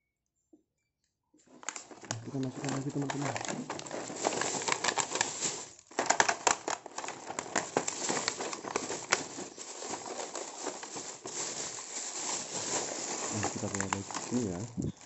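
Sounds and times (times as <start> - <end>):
plastic bag crinkling: 1.4 - 15.0.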